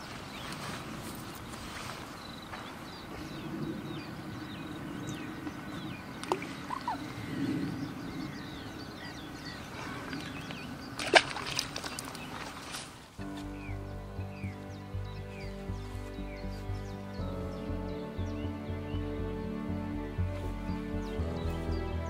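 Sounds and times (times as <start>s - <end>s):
small birds chirping: 0.0s - 22.0s
wind rumbling on microphone: 0.0s - 22.0s.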